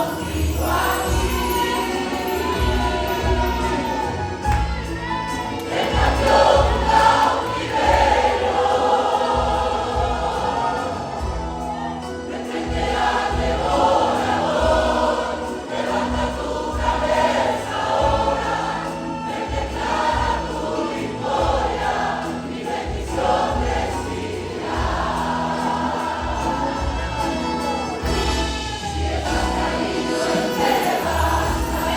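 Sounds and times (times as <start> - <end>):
band with bass and drum: 0.0 - 31.9
church choir singing: 0.0 - 31.9.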